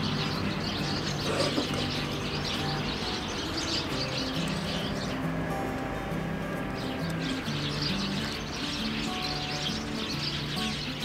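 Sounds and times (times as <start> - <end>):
quiet music with low held notes: 0.0 - 11.0
small birds chirping: 0.0 - 11.0.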